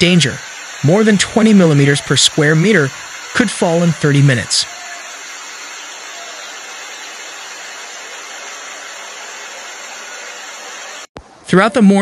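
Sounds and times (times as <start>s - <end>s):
floodwater rushing: 0.0s - 11.1s.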